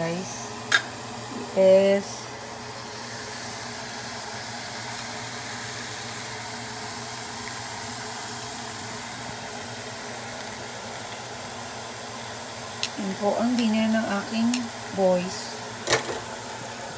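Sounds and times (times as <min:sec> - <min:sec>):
steaks sizzling on grill pan: 0:00.0 - 0:16.9.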